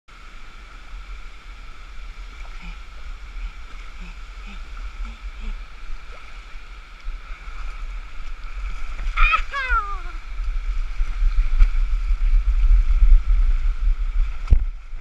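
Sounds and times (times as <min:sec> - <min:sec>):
faint water gurgles: 0:00.1 - 0:15.0
stream water rushing over rocks: 0:00.1 - 0:15.0.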